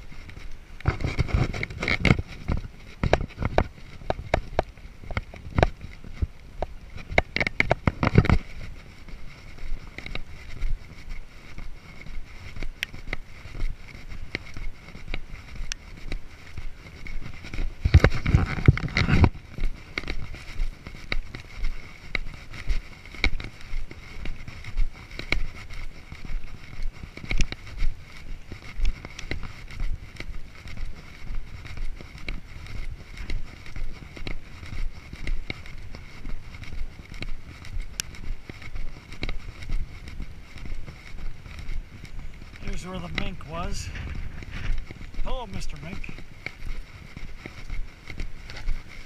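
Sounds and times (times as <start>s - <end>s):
footsteps on concrete: 0.0s - 49.0s.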